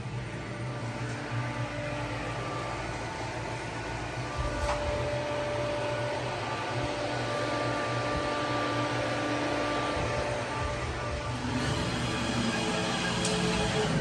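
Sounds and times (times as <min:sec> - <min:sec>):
faint whining tones: 0:00.0 - 0:14.0
hydraulic machine hum: 0:00.0 - 0:14.0.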